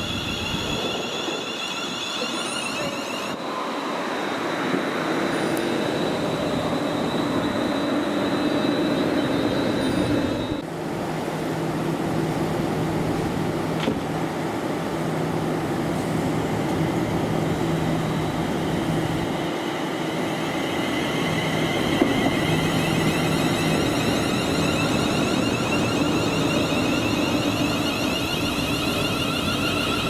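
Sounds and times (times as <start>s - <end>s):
faint high whine: 0.0s - 10.6s, 16.3s - 30.0s
train wheels rushing: 0.0s - 10.6s, 15.8s - 30.0s.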